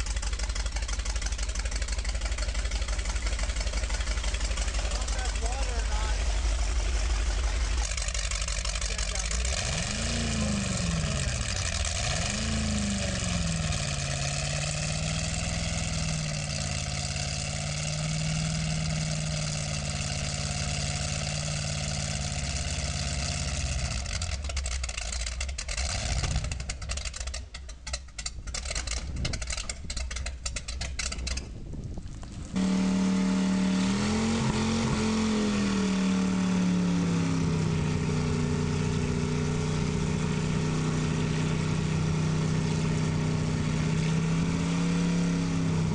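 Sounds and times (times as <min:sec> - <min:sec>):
boat engine revving: 0:00.0 - 0:27.4, 0:32.6 - 0:45.9.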